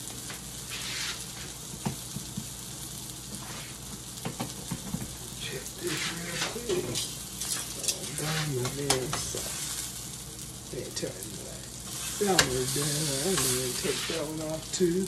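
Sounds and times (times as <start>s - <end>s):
patties sizzling in a frying pan: 0.0s - 15.0s.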